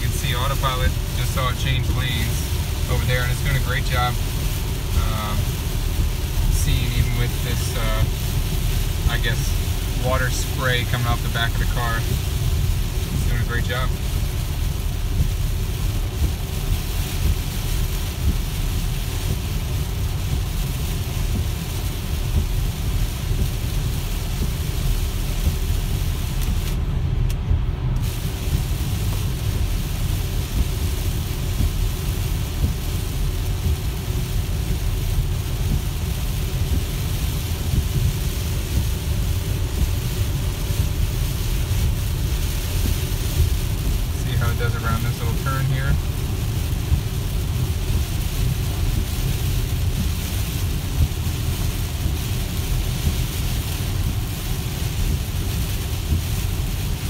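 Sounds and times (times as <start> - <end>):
rain and spray hissing on car: 0.0 - 57.0
tyres rumbling on wet road: 0.0 - 57.0.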